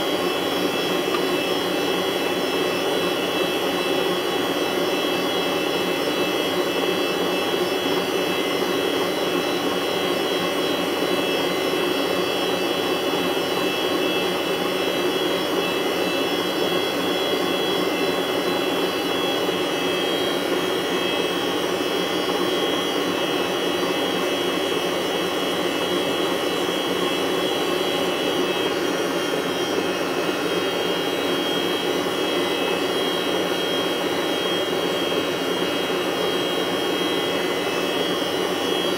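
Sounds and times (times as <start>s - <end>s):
electric fan motor whirring: 0.0s - 38.9s.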